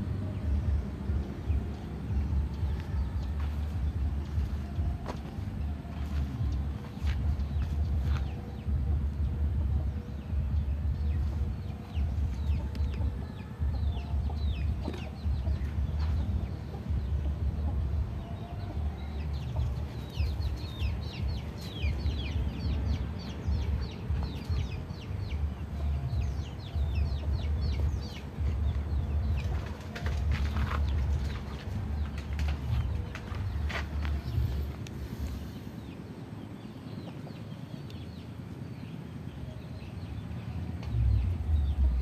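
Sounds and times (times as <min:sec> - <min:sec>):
low rumble: 0:00.0 - 0:36.5, 0:40.1 - 0:42.0
birds chirping: 0:00.0 - 0:42.0.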